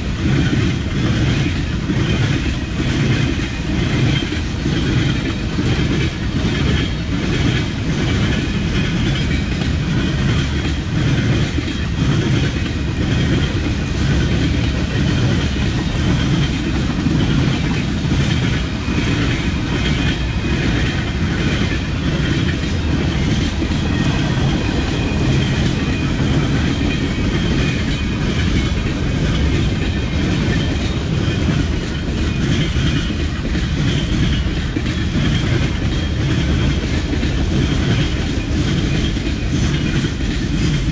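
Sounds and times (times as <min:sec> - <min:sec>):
train rumbling past: 0:00.0 - 0:40.9
wheels clacking over rail joints: 0:00.0 - 0:40.9.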